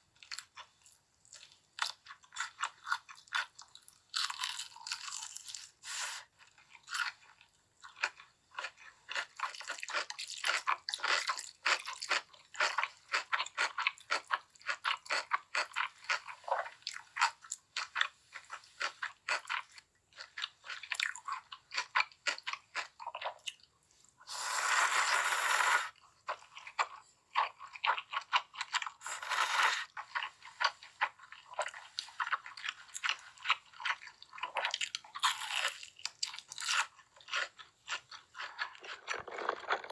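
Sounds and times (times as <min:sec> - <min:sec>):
crunching fried chicken: 0:00.2 - 0:23.7, 0:26.3 - 0:39.9.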